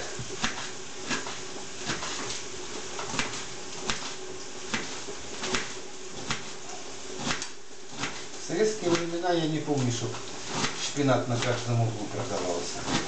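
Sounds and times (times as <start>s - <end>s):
knife chopping on cutting board: 0.2s - 2.4s, 3.0s - 11.8s, 12.4s - 13.0s.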